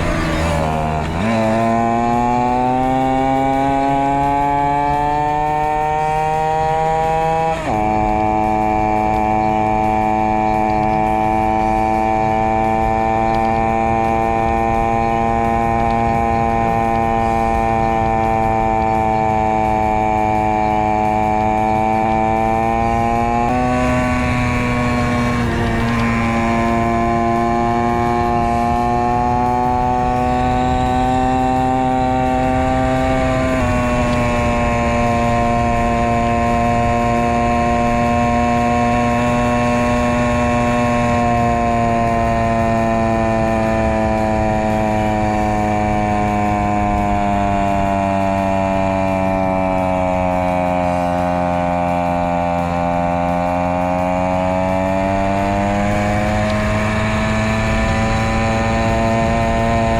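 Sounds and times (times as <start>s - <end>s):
small motorcycle engine under load: 0.0s - 59.9s.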